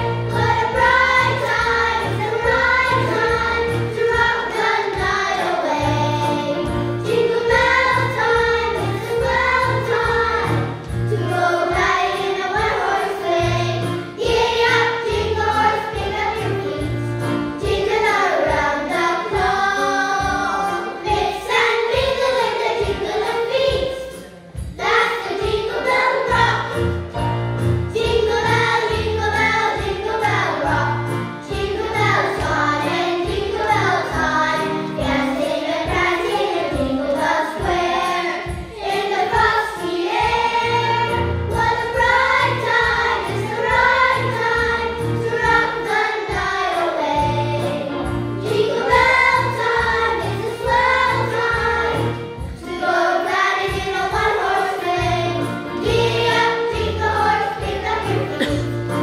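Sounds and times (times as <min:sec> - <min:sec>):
children's choir singing a hymn: 0:00.0 - 0:27.0, 0:27.9 - 0:59.0
instrumental accompaniment: 0:00.0 - 0:59.0.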